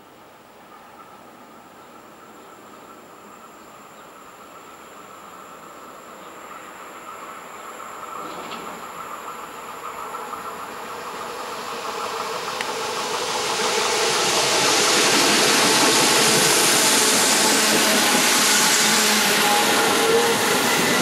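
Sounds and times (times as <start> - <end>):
train rolling past: 0.6 - 21.0.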